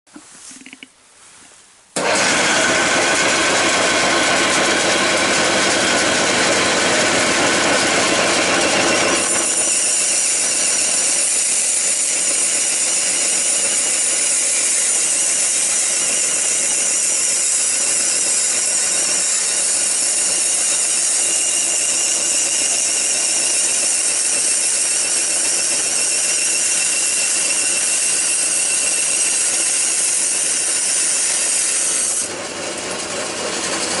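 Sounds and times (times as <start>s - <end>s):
saw screeching through metal: 2.0s - 34.0s
table saw running without load: 2.0s - 34.0s.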